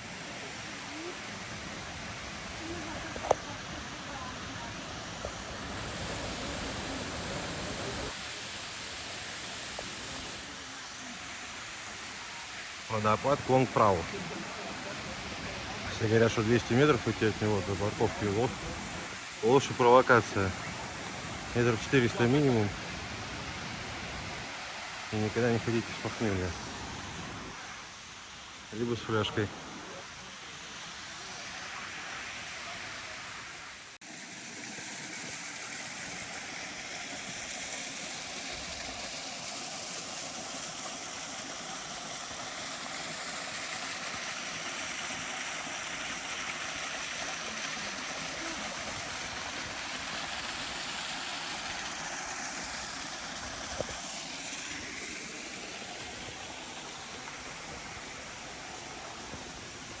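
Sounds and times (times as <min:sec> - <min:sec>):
waterfall splashing: 0:00.0 - 1:00.0.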